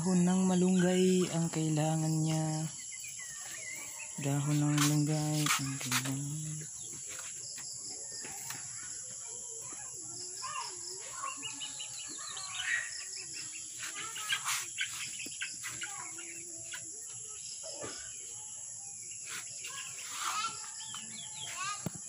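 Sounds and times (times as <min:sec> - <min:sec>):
bird chirps: 0:00.0 - 0:08.9, 0:09.6 - 0:21.8
insects droning: 0:00.0 - 0:22.0.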